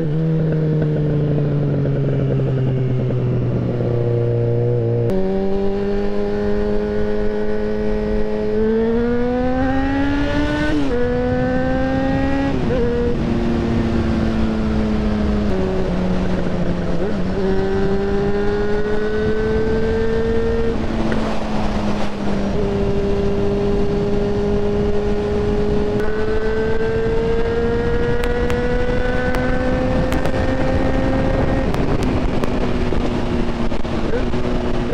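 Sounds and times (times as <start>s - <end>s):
motorcycle engine accelerating: 0.0s - 34.9s
wind rushing: 1.4s - 34.9s.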